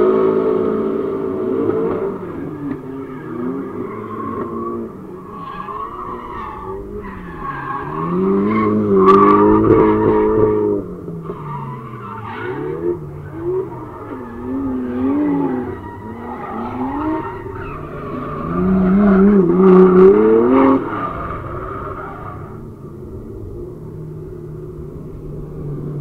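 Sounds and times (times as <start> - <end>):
car engines revving: 0.0 - 26.0
tyres skidding: 0.6 - 26.0.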